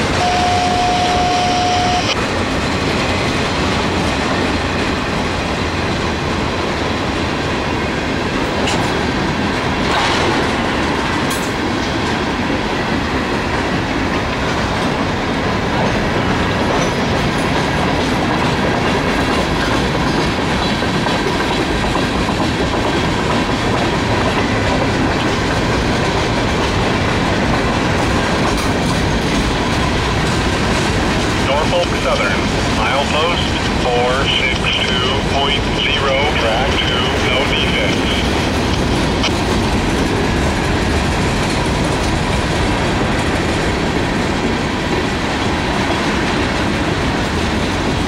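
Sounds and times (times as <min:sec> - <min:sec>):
freight cars rumbling: 0:00.0 - 0:48.0.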